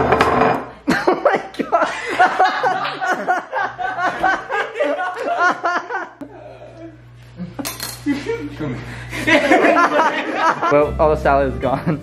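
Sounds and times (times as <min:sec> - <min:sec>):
people laughing hard: 0:00.8 - 0:10.8.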